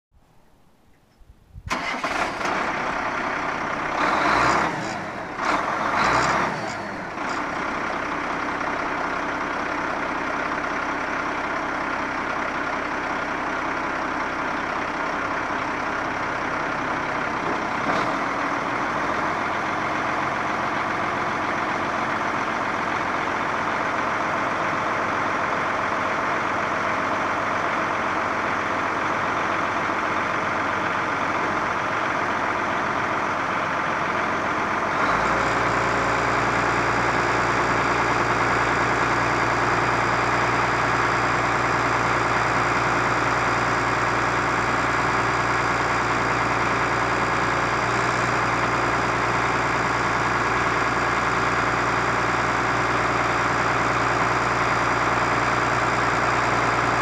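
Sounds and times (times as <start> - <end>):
truck engine starting and idling: 1.6 - 57.0.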